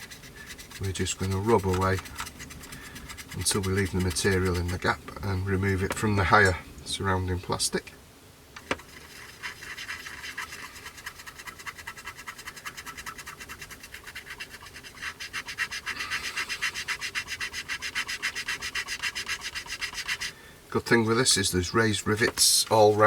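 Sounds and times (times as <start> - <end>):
scratchy scrubbing on plastic: 0.0 - 6.6, 8.6 - 20.4, 21.0 - 23.0.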